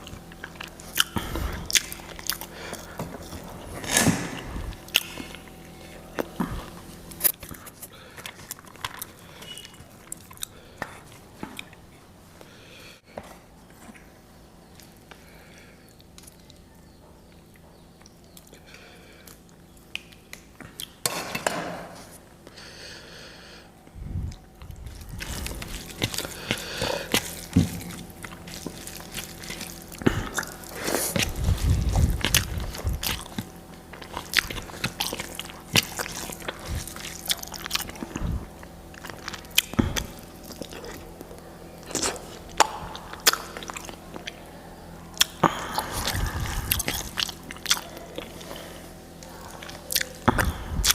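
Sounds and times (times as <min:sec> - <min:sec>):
person chewing food: 0:00.0 - 0:13.3, 0:13.9 - 0:50.9.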